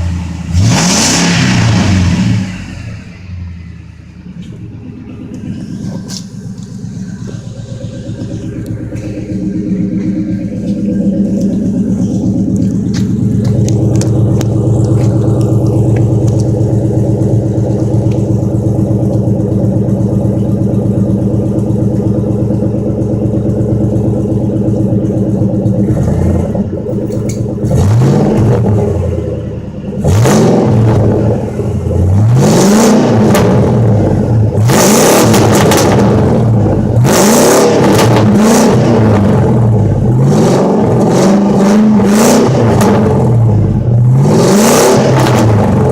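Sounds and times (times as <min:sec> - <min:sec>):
truck engine idling and revving: 0:00.0 - 0:45.9.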